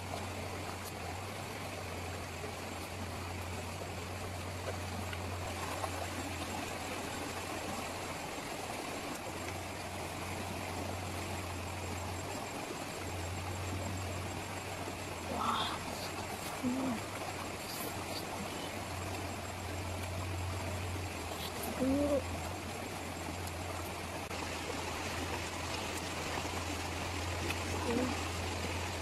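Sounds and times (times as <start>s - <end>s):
river rushing over rocks: 5.3s - 29.0s.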